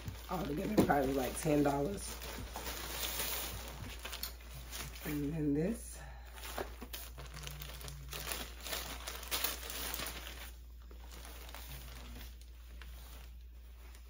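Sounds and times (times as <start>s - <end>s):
plastic bag crinkling: 0.0s - 5.8s, 6.4s - 14.0s.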